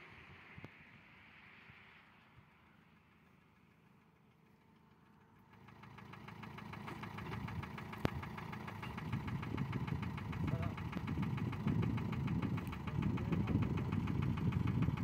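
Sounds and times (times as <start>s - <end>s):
engine ticking: 2.2s - 15.0s.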